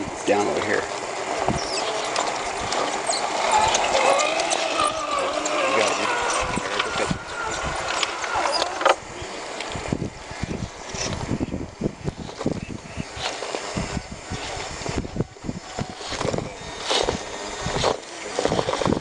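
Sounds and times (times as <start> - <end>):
electric motor and gearbox whining: 0.3 - 19.0.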